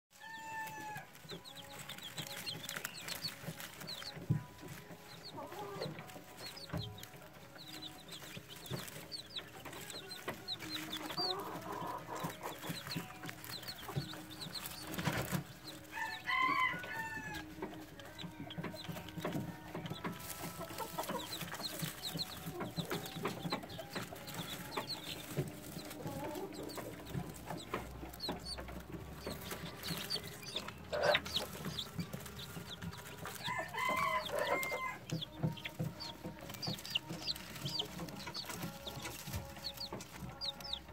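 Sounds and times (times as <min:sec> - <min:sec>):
chicks peeping: 0:00.2 - 0:40.9.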